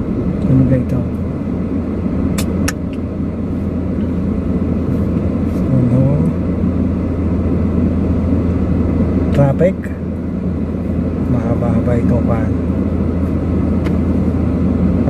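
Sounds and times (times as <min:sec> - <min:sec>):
car cabin rumble: 0:00.0 - 0:15.0.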